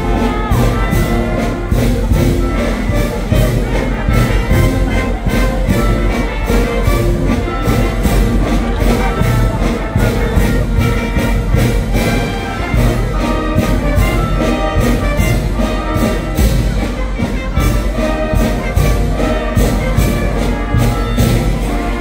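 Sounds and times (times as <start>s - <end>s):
brass band playing: 0.0s - 22.0s
steady drum beat: 0.0s - 22.0s.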